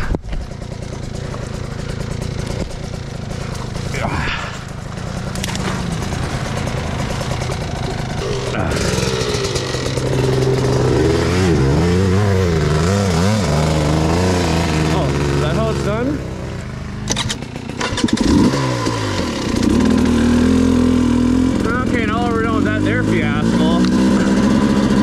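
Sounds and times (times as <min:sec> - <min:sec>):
two-stroke dirt bike engines idling: 0:00.0 - 0:25.0.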